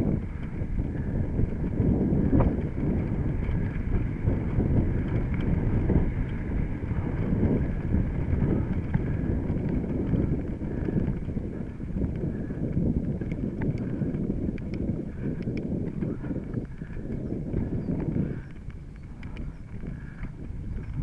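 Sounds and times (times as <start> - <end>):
bike rattling and knocking: 0.0 - 21.0
wind buffeting microphone: 0.0 - 21.0.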